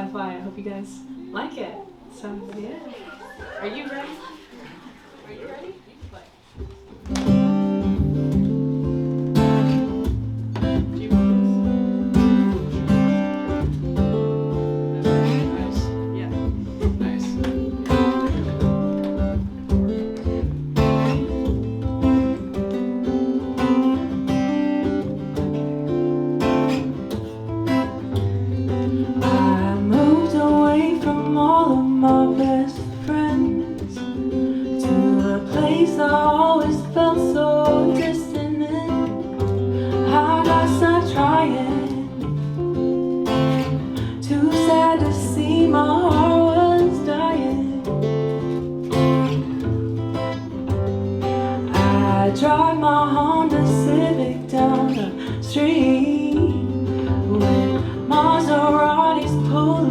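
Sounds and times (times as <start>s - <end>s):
acoustic guitar strumming: 6.5s - 59.9s.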